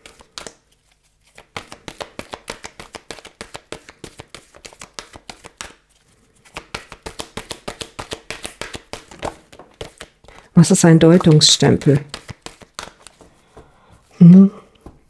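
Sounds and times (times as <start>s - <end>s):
cards being shuffled: 0.0s - 14.1s.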